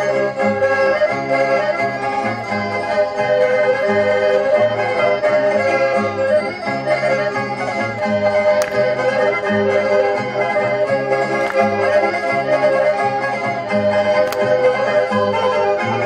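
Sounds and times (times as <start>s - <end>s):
accordion melody: 0.0s - 16.0s.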